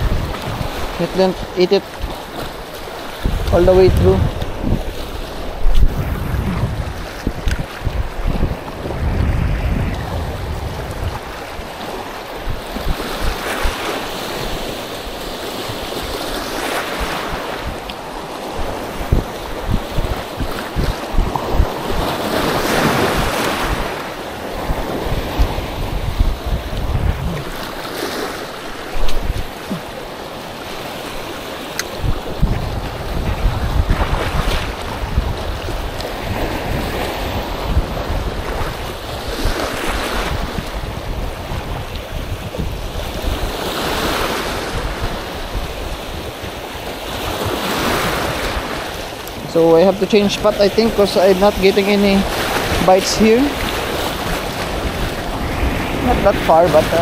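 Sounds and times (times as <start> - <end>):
surf breaking on a beach: 0.0 - 57.0
wind buffeting the microphone: 0.0 - 57.0.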